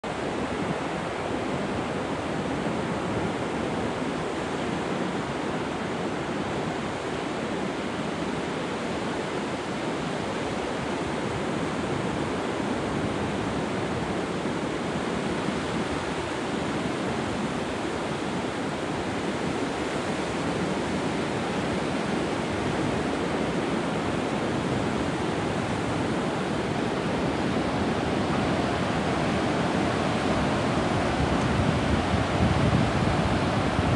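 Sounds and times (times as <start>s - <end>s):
surf breaking on a beach: 0.1s - 33.9s.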